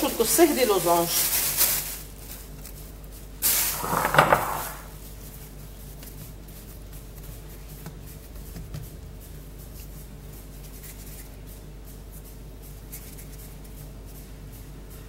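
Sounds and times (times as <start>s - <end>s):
low electrical hum: 0.0s - 15.0s
hands rolling dough: 2.4s - 15.0s.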